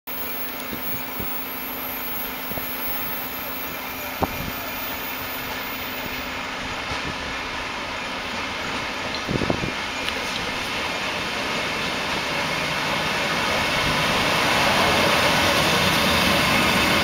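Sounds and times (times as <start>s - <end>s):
freight train rumbling: 0.1s - 17.0s.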